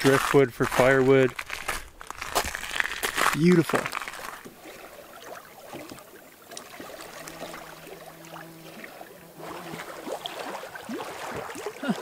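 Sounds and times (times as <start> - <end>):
small waves lapping on rocks: 0.0 - 12.0.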